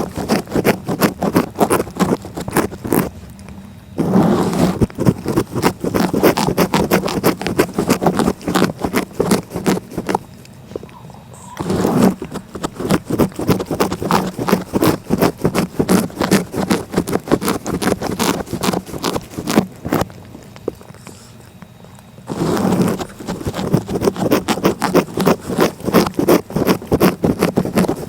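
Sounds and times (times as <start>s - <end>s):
cat licking: 0.0s - 28.0s.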